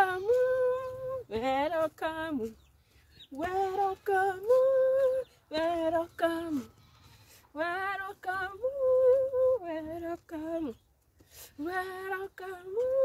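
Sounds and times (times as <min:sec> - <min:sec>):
woman singing unaccompanied: 0:00.0 - 0:06.8, 0:07.5 - 0:10.9, 0:11.5 - 0:13.0.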